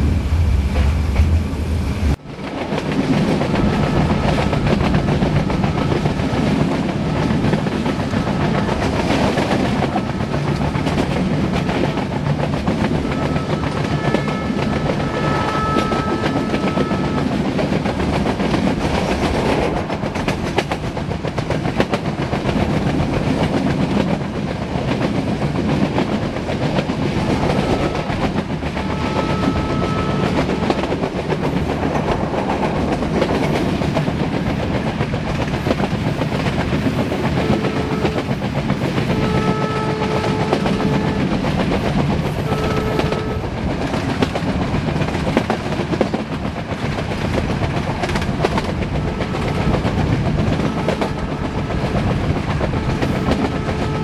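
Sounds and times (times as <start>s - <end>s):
train coach rumble: 0.0s - 54.0s.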